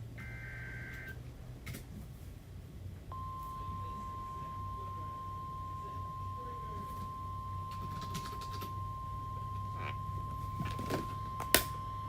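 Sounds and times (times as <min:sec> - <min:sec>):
long steady alarm beep: 0:00.2 - 0:01.2, 0:03.1 - 0:12.0.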